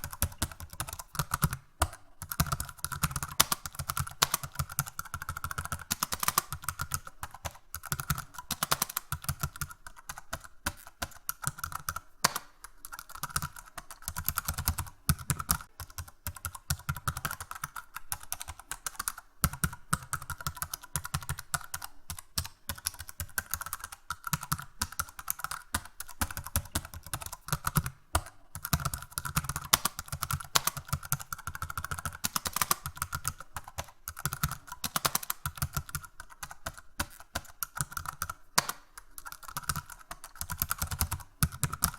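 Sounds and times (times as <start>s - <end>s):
fast hard keyboard typing: 0.0s - 41.9s.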